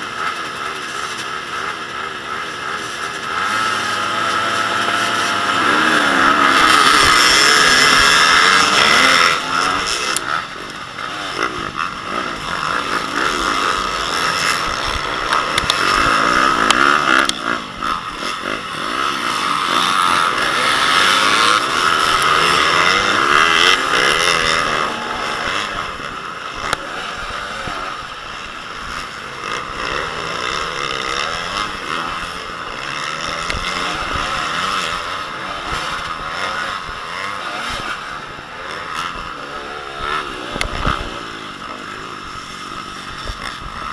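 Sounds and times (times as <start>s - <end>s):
motocross bike engines revving: 0.0s - 43.9s.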